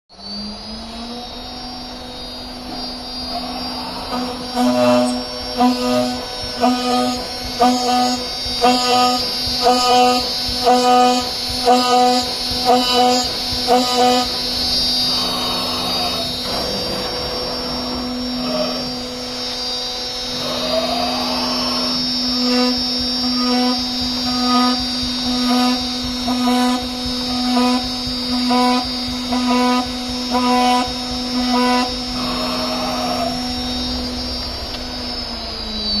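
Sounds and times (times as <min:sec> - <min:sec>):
router spindle whining: 0:00.1 - 0:36.0.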